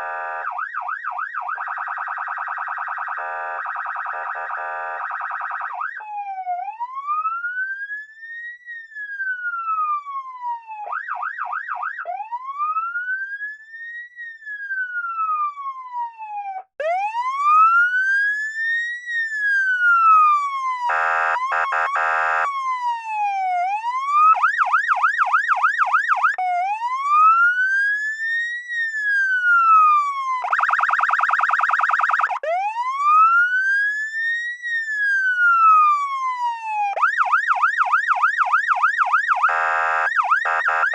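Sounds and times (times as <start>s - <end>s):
siren fast yelp: 0.0s - 7.8s, 14.6s - 18.2s, 19.4s - 40.9s
electronic police siren wailing: 0.0s - 40.9s.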